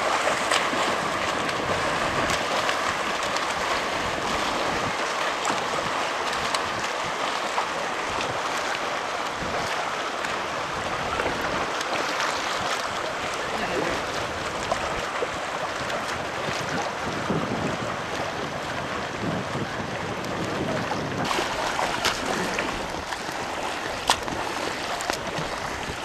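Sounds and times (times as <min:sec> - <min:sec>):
small splashes: 0:00.0 - 0:18.6, 0:21.2 - 0:26.0
choppy open water: 0:00.0 - 0:26.0
wind: 0:00.0 - 0:26.0.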